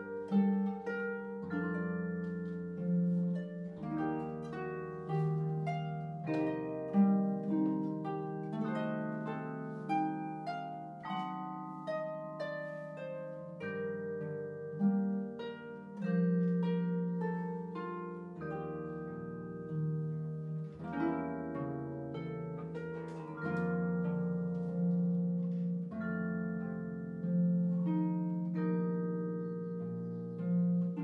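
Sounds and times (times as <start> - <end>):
harp playing slow melody: 0.0 - 31.0.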